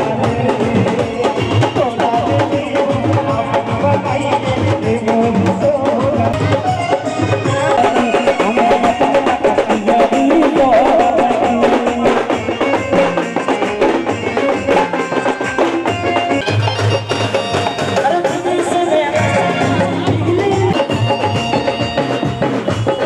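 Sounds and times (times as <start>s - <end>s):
folk music with fast drumming: 0.0s - 23.0s.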